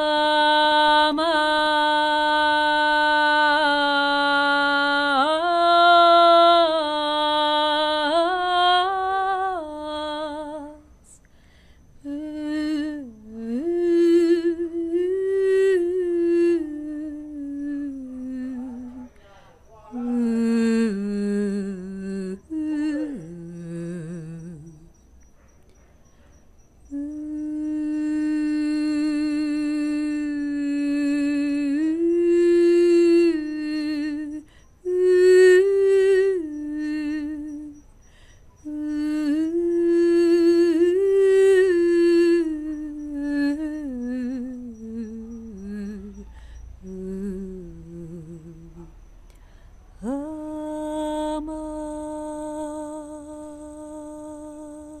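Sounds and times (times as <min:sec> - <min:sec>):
woman humming a melody: 0:00.0 - 0:19.2, 0:19.9 - 0:25.1, 0:26.8 - 0:49.4, 0:50.0 - 0:55.0.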